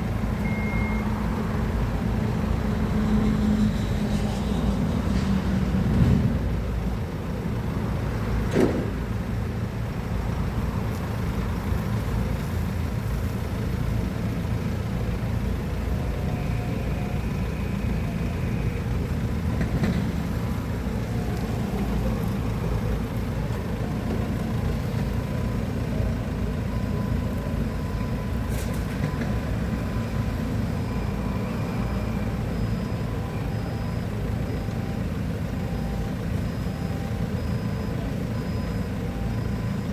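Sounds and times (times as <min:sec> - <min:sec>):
heavy equipment engine running: 0:00.0 - 0:39.9.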